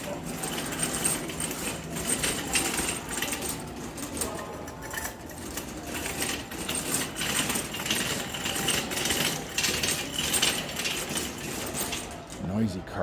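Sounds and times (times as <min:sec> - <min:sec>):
shopping cart rattling: 0:00.0 - 0:12.6.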